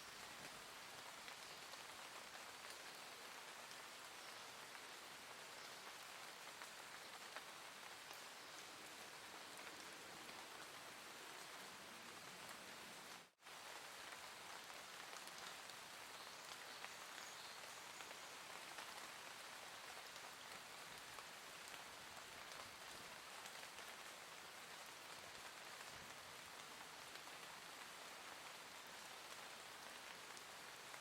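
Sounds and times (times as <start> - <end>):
soft steady rain: 0.0 - 31.0.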